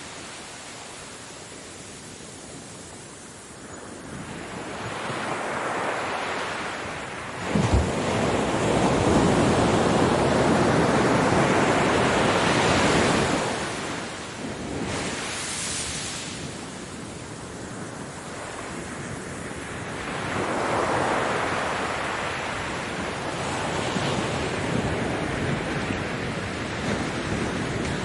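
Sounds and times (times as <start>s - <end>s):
ocean surf washing onto beach: 0.0s - 28.0s.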